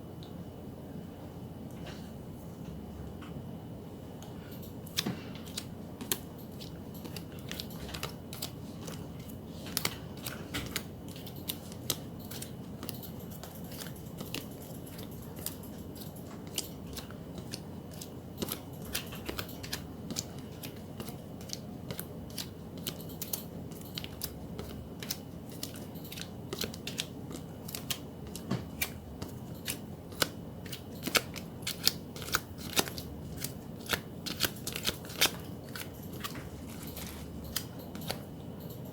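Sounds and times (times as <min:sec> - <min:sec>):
low room hum: 0:00.0 - 0:38.9
photocards clicking and snapping: 0:04.9 - 0:38.9.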